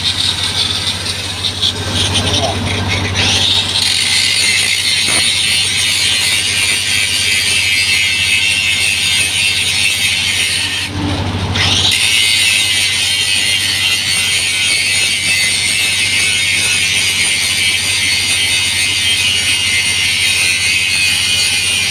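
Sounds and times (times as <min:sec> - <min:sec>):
angle grinder grinding metal: 0:00.0 - 0:21.9.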